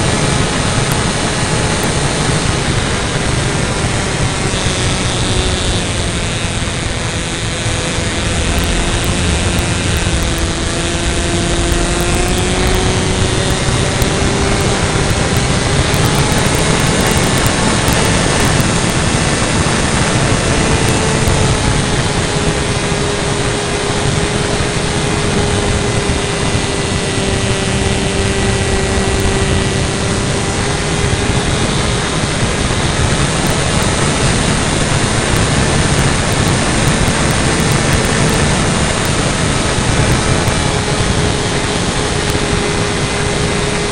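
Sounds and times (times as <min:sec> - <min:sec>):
model airplane engine and propeller: 0:00.0 - 0:43.9
wind rush: 0:00.0 - 0:43.9.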